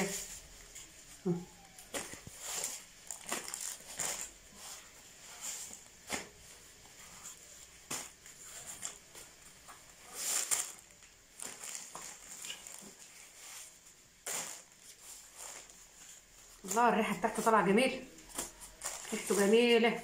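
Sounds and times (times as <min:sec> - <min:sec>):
plastic sheet crinkling: 0:00.0 - 0:20.0.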